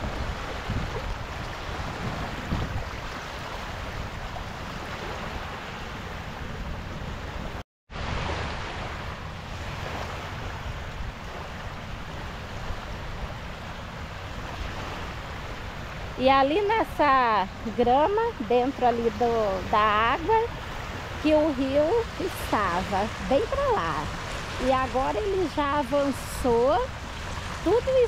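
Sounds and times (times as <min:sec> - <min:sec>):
river waves washing against shore: 0:00.0 - 0:28.0
wind buffeting microphone: 0:00.0 - 0:28.0.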